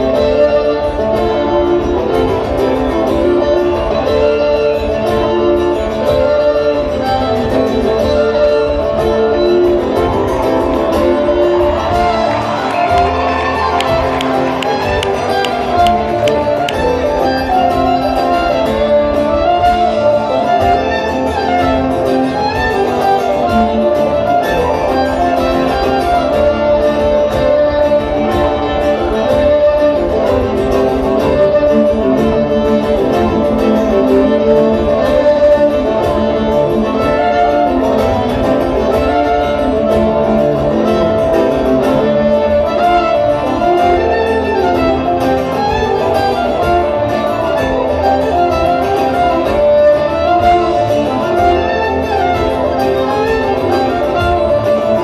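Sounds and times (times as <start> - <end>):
acoustic string band playing: 0.0 - 55.0.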